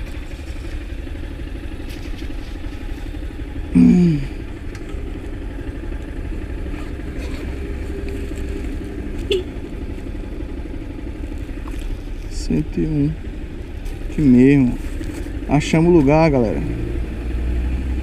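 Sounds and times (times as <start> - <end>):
motorcycle engine idling: 0.0 - 17.4.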